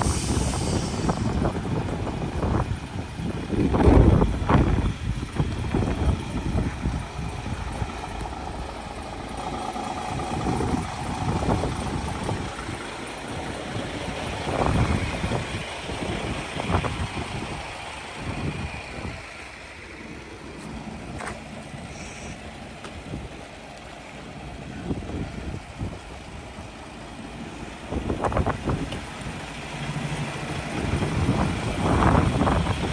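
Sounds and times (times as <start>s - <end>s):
truck diesel engine idling: 0.0s - 32.9s.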